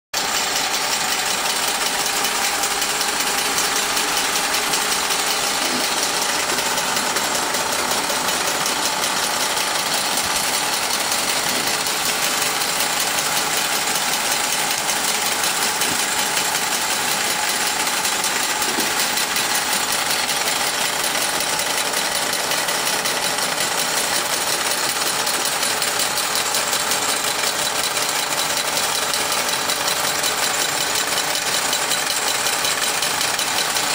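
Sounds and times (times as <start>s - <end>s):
toy steam engine mechanical clatter: 0.2s - 33.9s.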